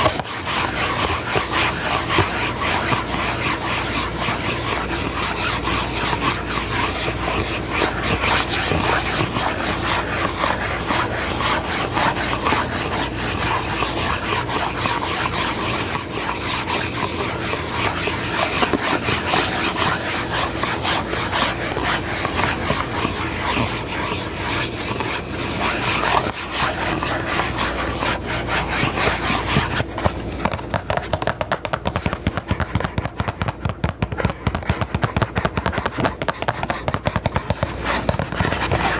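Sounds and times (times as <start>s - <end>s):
close-miked rubbing and scratching: 0.0s - 30.6s, 34.3s - 38.9s
fast crisp taps: 0.0s - 38.9s.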